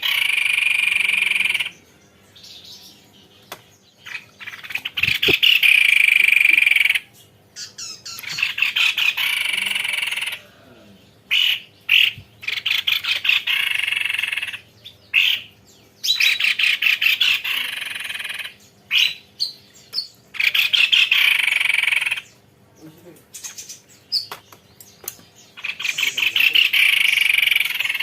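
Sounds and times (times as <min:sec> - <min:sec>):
single bird calls: 0:00.0 - 0:02.6, 0:04.0 - 0:10.5, 0:11.3 - 0:22.4, 0:23.3 - 0:28.0
bird song with rolling trills: 0:00.0 - 0:28.0.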